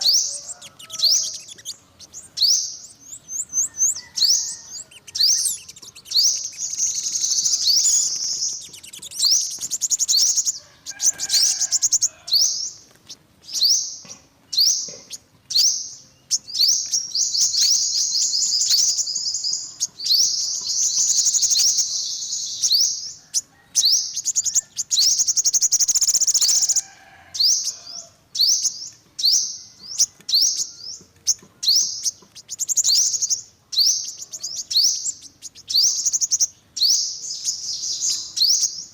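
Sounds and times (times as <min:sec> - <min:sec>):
bird chirping trills: 0:00.0 - 0:38.9.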